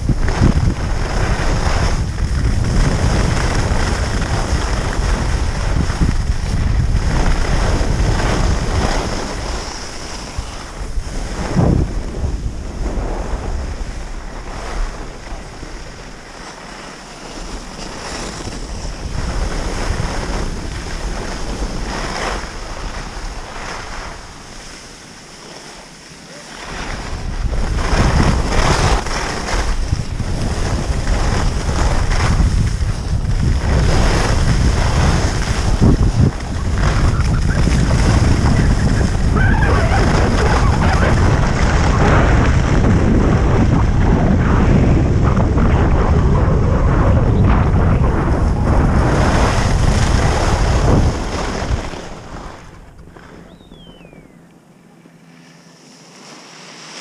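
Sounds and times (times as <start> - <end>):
wind buffeting microphone: 0.0 - 25.2, 26.6 - 54.4
skis scraping on snow: 0.0 - 54.2, 55.3 - 57.0.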